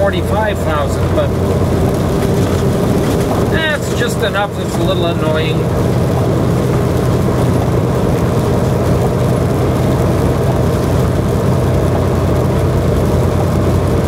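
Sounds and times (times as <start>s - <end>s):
road noise: 0.0s - 14.0s
truck diesel engine running: 0.0s - 14.0s.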